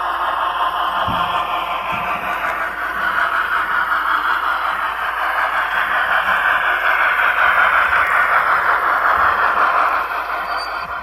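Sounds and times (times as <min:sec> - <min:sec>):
model locomotive steam hiss: 0:00.0 - 0:11.0.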